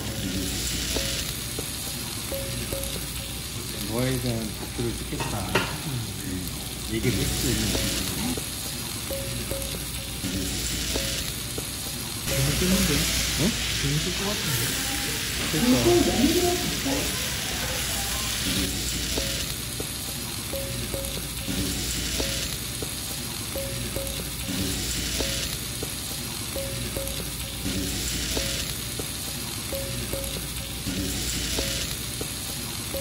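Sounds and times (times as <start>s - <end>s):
fried rice sizzling on griddle: 0.0s - 33.0s.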